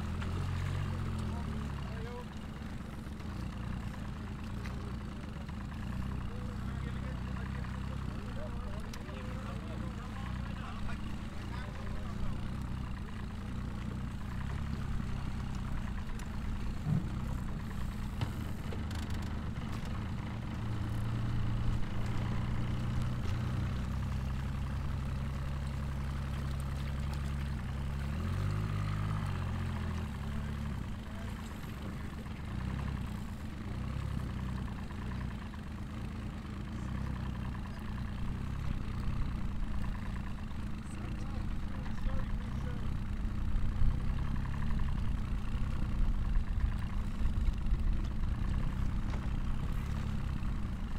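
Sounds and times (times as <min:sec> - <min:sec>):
boat engine idling and revving: 0:00.0 - 0:50.9.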